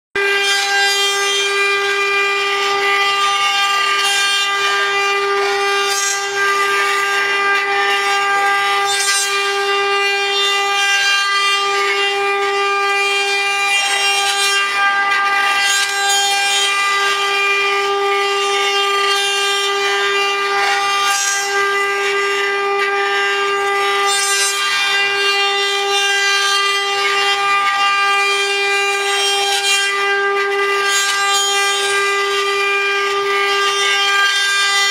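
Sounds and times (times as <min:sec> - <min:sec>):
router bits cutting wood: 0:00.2 - 0:34.9
router spindles whining: 0:00.2 - 0:34.9.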